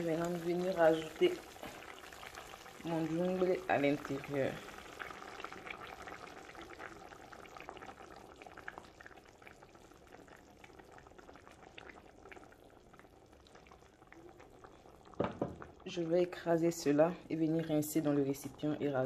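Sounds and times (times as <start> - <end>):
sauce bubbling and crackling: 0.0 - 19.0.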